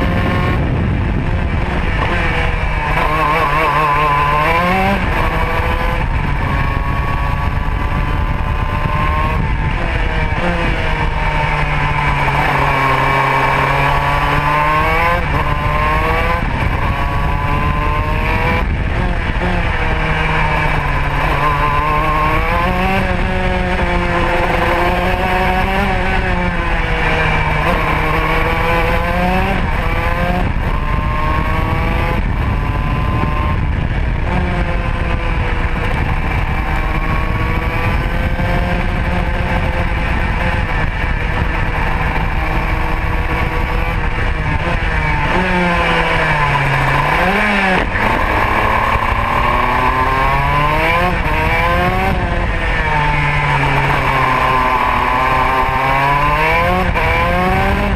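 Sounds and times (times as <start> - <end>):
kart engine accelerating: 0.0 - 57.9.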